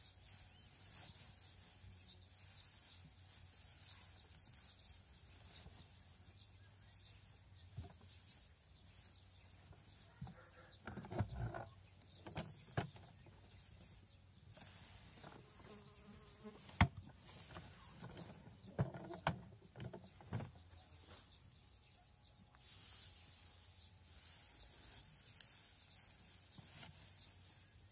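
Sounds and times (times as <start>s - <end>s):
hay rustling: 0.0s - 10.8s, 11.7s - 18.7s, 20.2s - 27.9s
wooden knocks of hay press: 0.0s - 21.8s, 23.9s - 27.8s.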